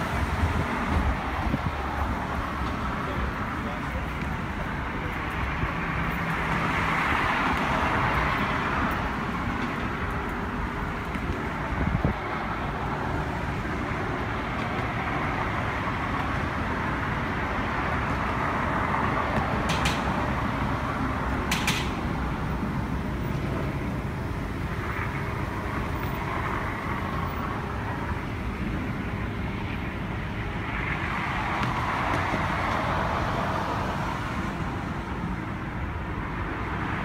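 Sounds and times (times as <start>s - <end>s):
distant road traffic rumble: 0.0s - 37.0s.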